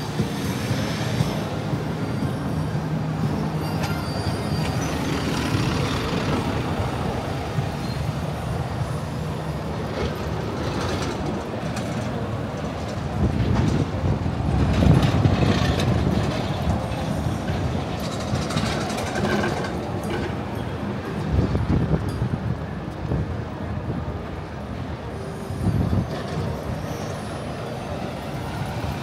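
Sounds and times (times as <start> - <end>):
large vehicles running close by: 0.0 - 29.0.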